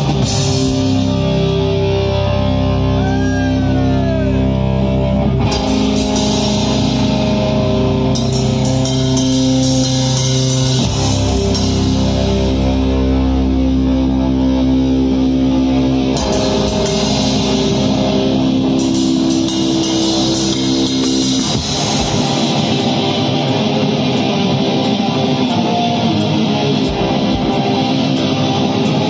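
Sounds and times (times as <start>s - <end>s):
distorted electric guitar chords: 0.0s - 29.0s.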